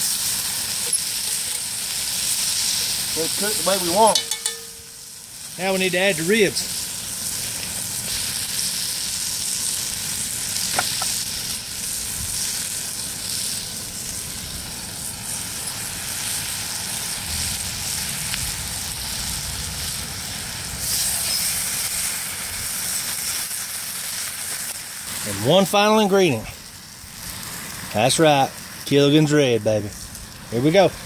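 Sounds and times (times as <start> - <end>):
vegetables sizzling in a pot: 0.0 - 31.0.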